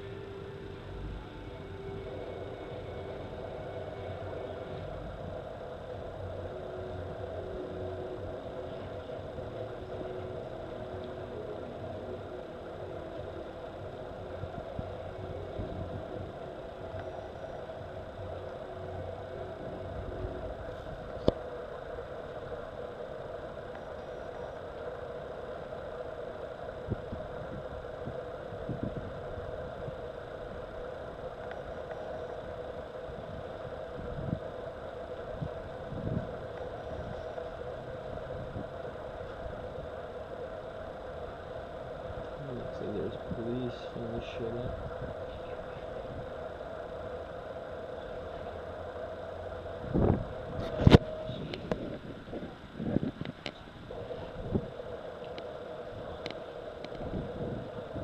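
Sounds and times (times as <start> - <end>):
mechanical hum: 0.0 - 58.0.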